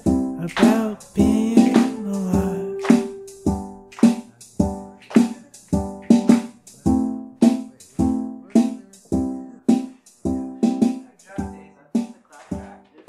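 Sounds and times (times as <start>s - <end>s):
instrumental chords struck: 0.0s - 12.7s.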